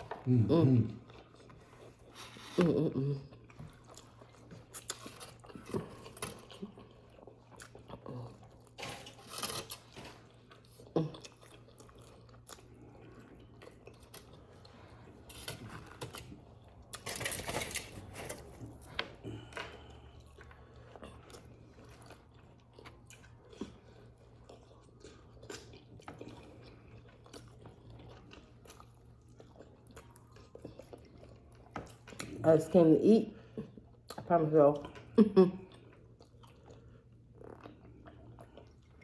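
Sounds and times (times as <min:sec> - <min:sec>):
close chewing and mouth sounds: 0:00.0 - 0:39.0.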